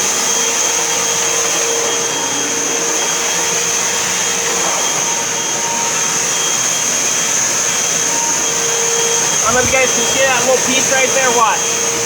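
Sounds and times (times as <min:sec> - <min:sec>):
upright vacuum running: 0:00.0 - 0:12.0.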